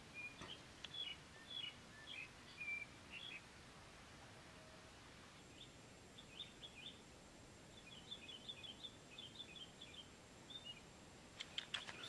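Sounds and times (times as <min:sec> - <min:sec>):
small birds chirping: 0:00.0 - 0:03.6, 0:05.3 - 0:12.0
outdoor background hiss: 0:00.0 - 0:12.0.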